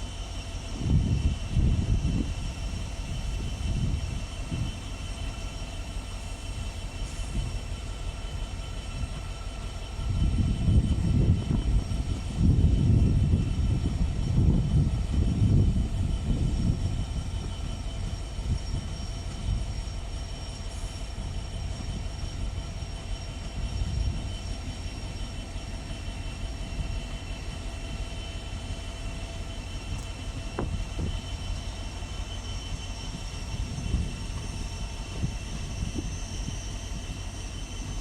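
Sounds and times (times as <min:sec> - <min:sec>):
high-pitched whine: 0:00.0 - 0:38.0
train rumble: 0:00.0 - 0:38.0.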